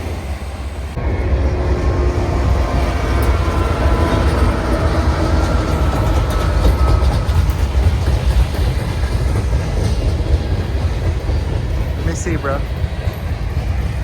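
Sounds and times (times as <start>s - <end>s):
train cars rumbling on rails: 0.0s - 14.0s
wheels clicking and ringing: 2.7s - 14.0s.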